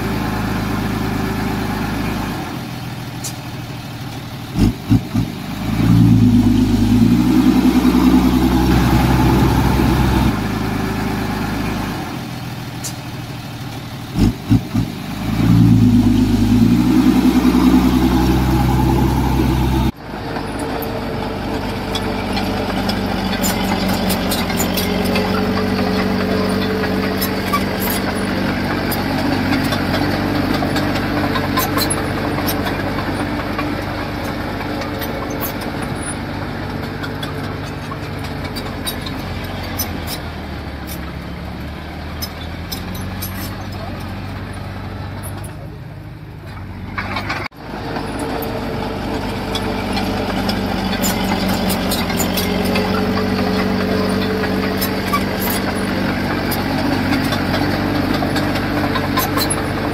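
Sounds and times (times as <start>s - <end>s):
diesel engine revving: 0.0s - 59.9s
engine running steadily: 0.0s - 59.9s.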